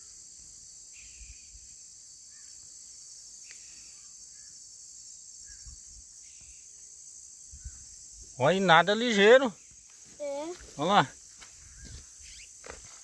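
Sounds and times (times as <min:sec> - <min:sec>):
insect chorus shrilling: 0:00.0 - 0:13.0.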